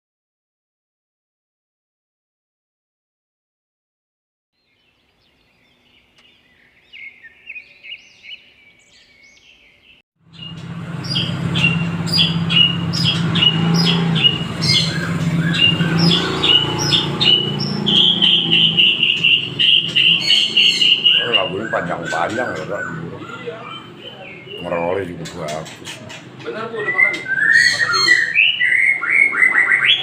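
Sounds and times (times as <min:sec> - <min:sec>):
bird singing sharp chirps: 0:04.6 - 0:30.0.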